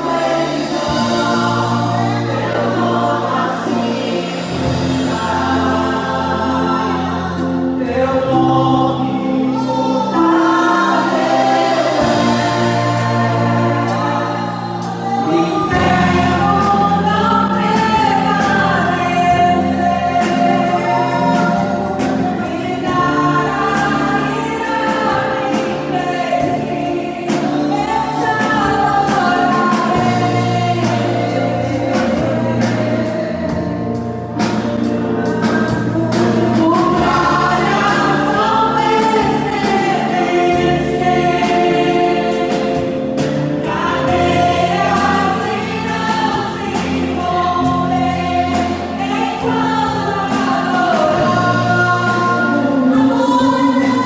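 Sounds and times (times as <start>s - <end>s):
choir singing gospel song: 0.0s - 54.0s
instrumental backing with bass: 0.0s - 54.0s.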